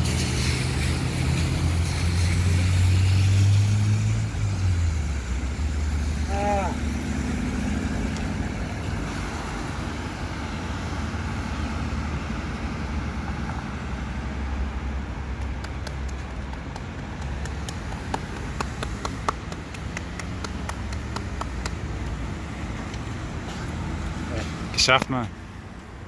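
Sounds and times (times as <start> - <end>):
traffic rumble and tyre hiss: 0.0 - 26.0.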